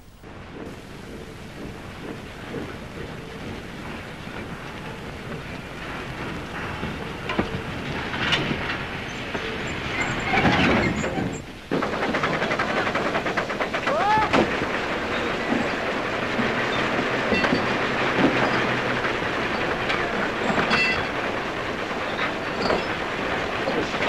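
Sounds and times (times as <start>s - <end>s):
clattering train rumble: 0.0s - 24.0s.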